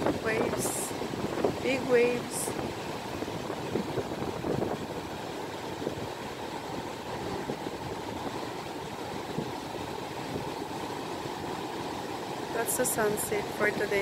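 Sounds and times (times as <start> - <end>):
waves breaking on beach: 0.0 - 14.0
wind buffeting microphone: 0.0 - 14.0.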